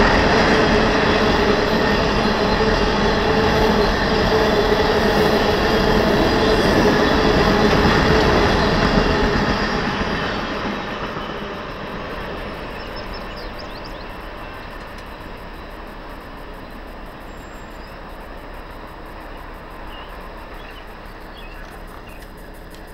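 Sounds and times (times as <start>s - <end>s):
train rail noise rumble: 0.0s - 22.9s.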